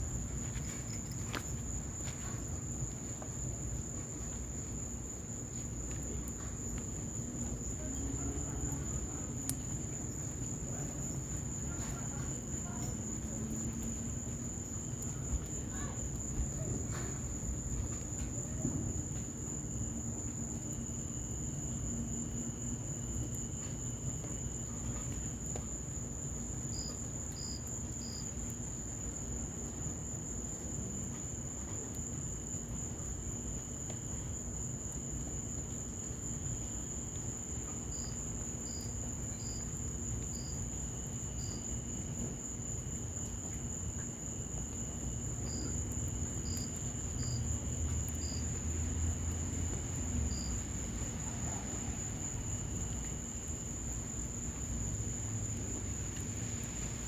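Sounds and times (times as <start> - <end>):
crickets trilling: 0.0 - 57.0
fire crackling: 0.0 - 57.0
insect chirps: 0.0 - 57.0
rain hiss: 0.0 - 57.0.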